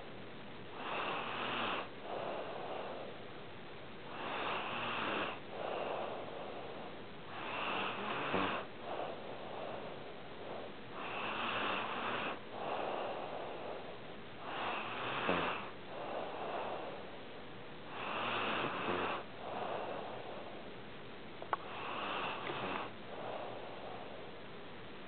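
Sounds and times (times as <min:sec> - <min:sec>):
pet snoring: 0:00.7 - 0:03.2, 0:04.0 - 0:17.2, 0:17.9 - 0:20.6, 0:21.5 - 0:24.2.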